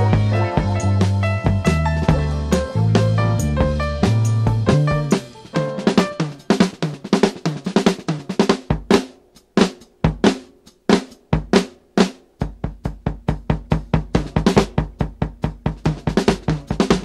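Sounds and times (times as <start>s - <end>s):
drum kit playing: 0.0s - 17.0s.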